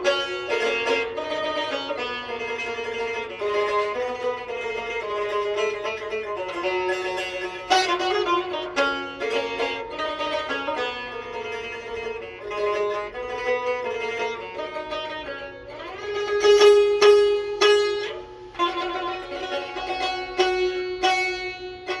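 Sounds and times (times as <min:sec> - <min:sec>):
plucked lute melody: 0:00.0 - 0:22.0.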